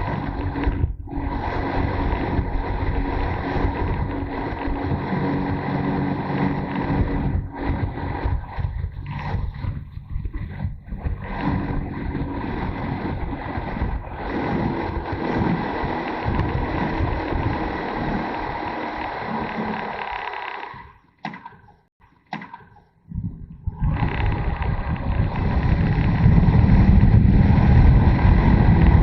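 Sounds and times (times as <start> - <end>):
wind buffeting microphone: 0.0 - 19.4, 23.1 - 29.0
motorcycle engine running: 0.0 - 21.0, 23.1 - 29.0.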